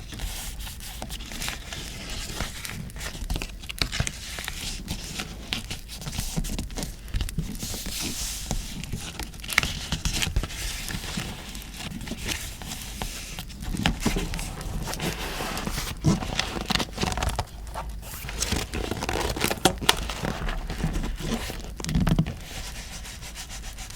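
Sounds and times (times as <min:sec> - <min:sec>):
paper crinkling and rustling: 0:00.0 - 0:23.9.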